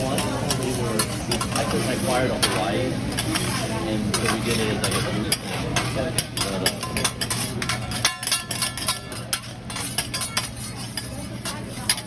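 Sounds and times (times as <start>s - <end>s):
metal utensils clanking on griddle: 0.0s - 12.0s.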